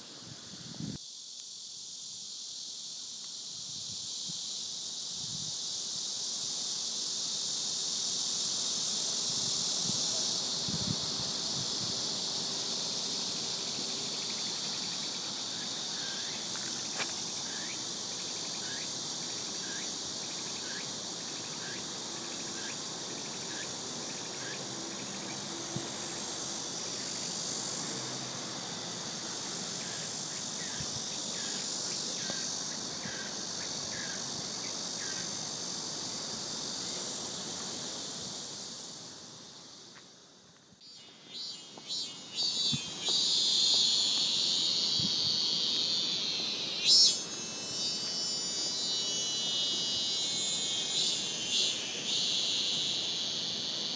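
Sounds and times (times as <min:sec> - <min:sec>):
insects buzzing: 0:00.0 - 0:53.9
short insect chirp: 0:00.0 - 0:53.9.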